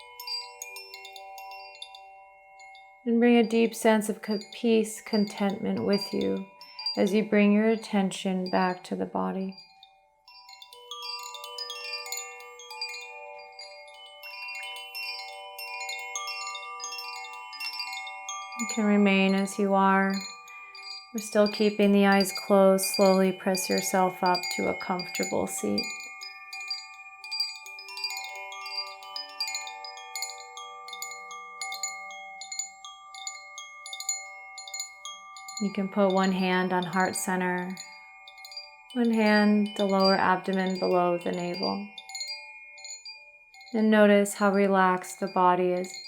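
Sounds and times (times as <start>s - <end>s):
chimes ringing: 0.0s - 46.0s.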